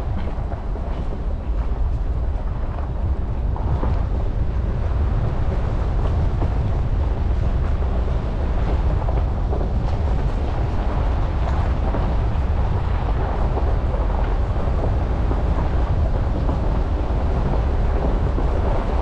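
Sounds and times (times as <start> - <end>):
gravel ticks: 0.0 - 19.0
truck tyres rumbling on gravel: 0.0 - 19.0
wind buffeting microphone: 0.0 - 19.0.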